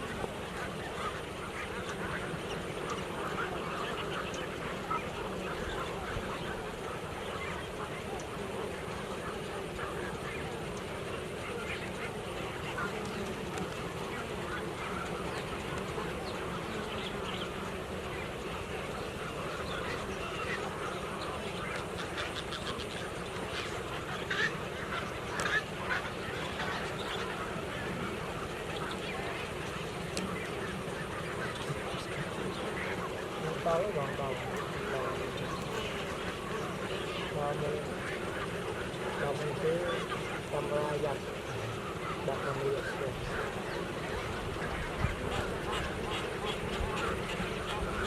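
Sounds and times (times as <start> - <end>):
flock of waterbirds calling: 0.0 - 48.0.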